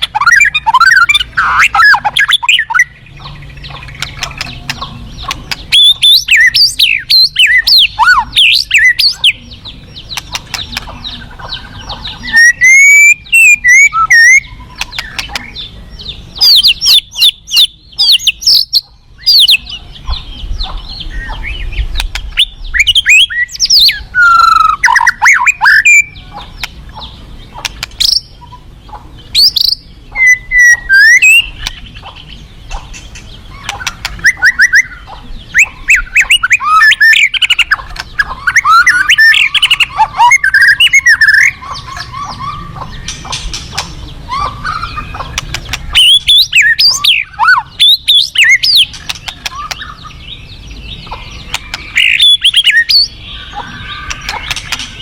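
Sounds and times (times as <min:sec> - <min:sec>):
bird singing whistles and trills: 0:00.0 - 0:27.1, 0:29.3 - 0:55.0.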